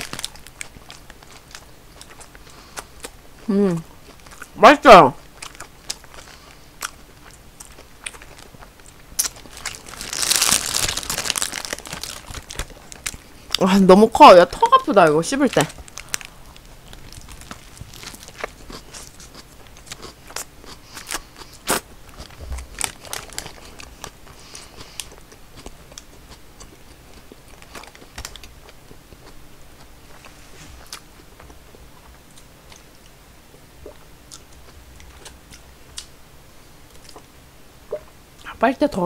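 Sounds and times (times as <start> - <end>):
person chewing food: 0.0 - 4.6, 5.2 - 13.6, 15.6 - 36.2, 36.8 - 38.5.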